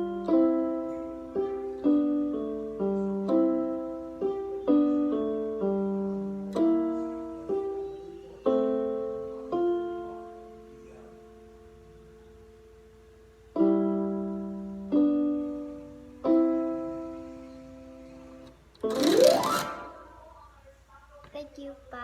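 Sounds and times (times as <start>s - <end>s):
piano piece: 0.0s - 20.5s.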